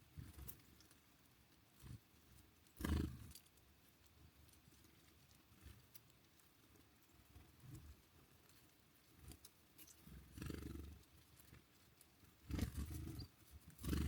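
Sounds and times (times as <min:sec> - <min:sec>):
faint clicks: 0:00.1 - 0:14.0.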